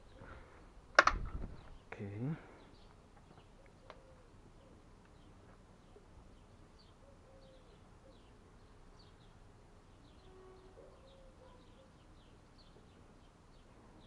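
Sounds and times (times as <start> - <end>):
faint high bird chirps: 2.7 - 14.0.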